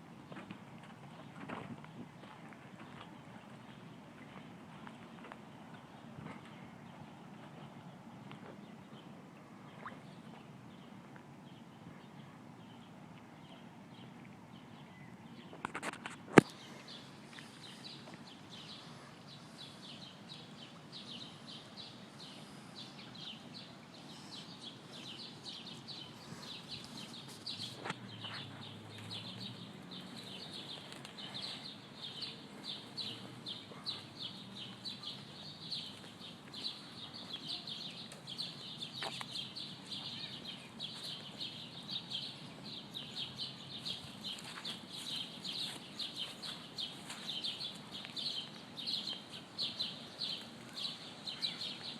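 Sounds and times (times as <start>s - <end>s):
birds chirping: 0.3s - 51.9s.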